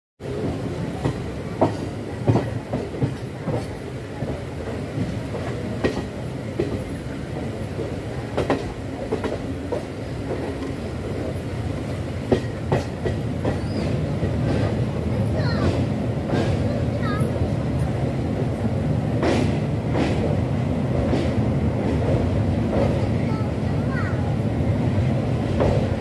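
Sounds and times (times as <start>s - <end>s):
train wheels rumbling on rails: 0.2s - 26.0s
wheels clacking over rail joints: 0.3s - 24.0s.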